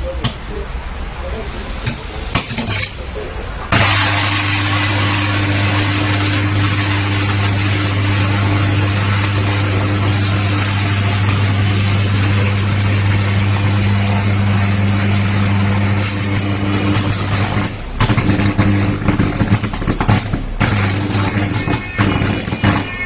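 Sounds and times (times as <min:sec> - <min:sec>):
electrical arc buzzing: 0:03.7 - 0:23.0.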